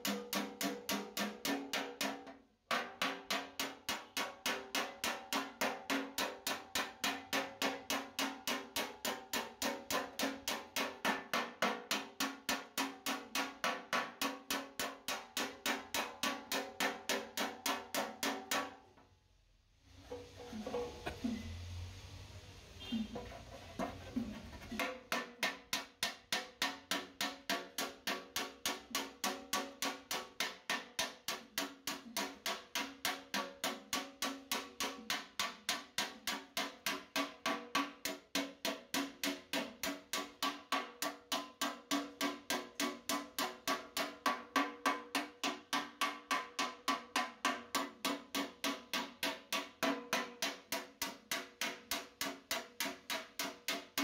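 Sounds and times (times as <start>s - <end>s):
hammering on sheet metal: 0.0s - 18.8s, 23.1s - 54.0s.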